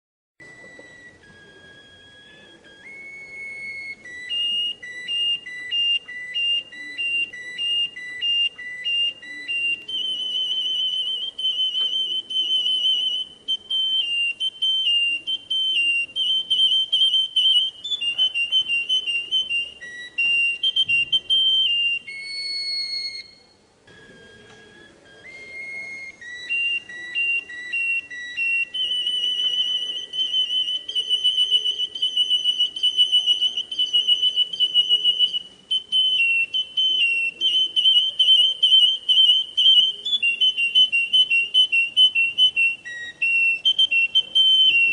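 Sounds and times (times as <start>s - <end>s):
canary singing whistled trills: 0.4s - 44.9s.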